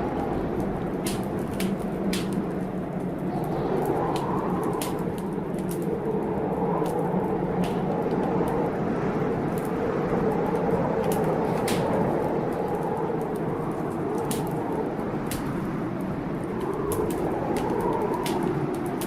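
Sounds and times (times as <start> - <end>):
storm rain and wind: 0.0 - 19.0
wood fire crackling and popping: 0.0 - 19.0.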